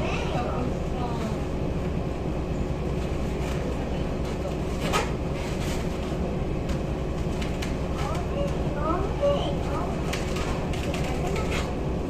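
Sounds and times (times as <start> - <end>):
ship engines rumbling: 0.0 - 12.0.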